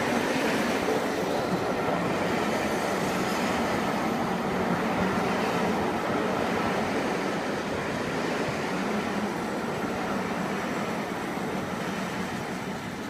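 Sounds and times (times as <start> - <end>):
train wheels on track: 0.0 - 13.0.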